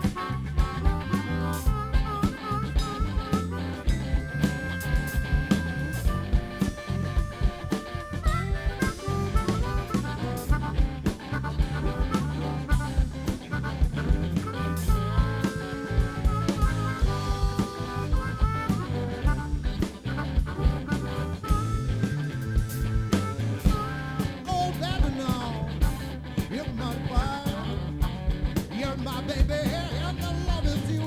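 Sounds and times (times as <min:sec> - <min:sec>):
held notes: 0:00.0 - 0:25.6
drum beat: 0:00.0 - 0:26.0
lead guitar line bending pitch: 0:00.0 - 0:26.4
repeating bass line: 0:00.0 - 0:31.0.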